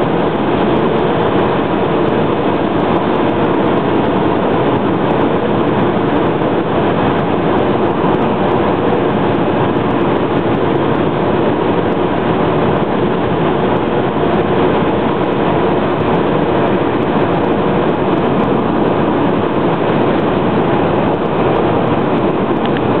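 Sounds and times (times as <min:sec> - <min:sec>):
tyre roar and wind inside car: 0:00.0 - 0:23.0.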